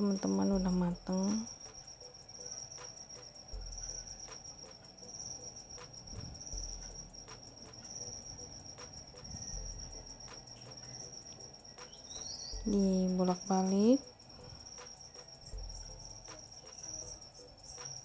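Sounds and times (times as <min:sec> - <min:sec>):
cricket trilling: 0:00.0 - 0:18.0.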